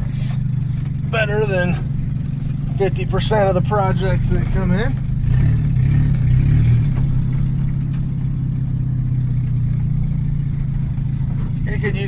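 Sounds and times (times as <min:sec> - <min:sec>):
car engine droning inside cabin: 0:00.0 - 0:12.0.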